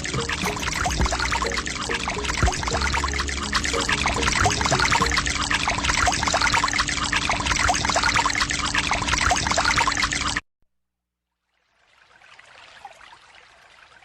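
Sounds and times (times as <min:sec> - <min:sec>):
water pouring and splashing: 0:00.0 - 0:10.4, 0:11.6 - 0:14.0.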